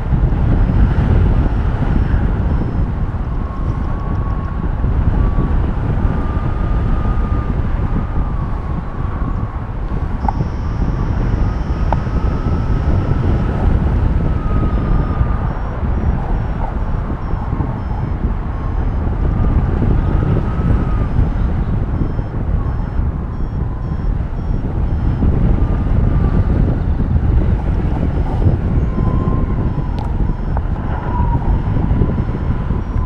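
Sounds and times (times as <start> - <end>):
wind rushing over microphone: 0.0 - 33.0
high-pitched variometer beeps: 1.9 - 4.6, 6.1 - 33.0.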